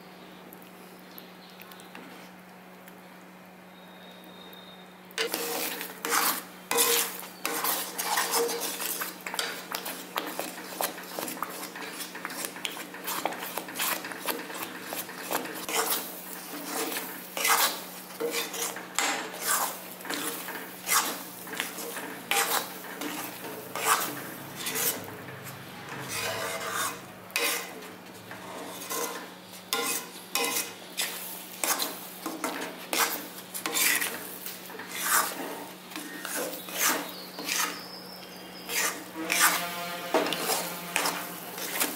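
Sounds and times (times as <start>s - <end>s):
metal spatula scraping metal pan: 5.2s - 37.9s, 38.6s - 41.9s.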